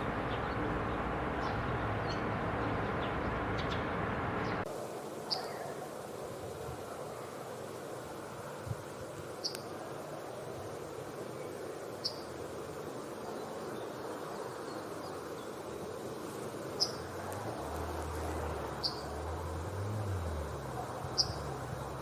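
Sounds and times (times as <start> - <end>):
background noise: 0.0 - 22.0.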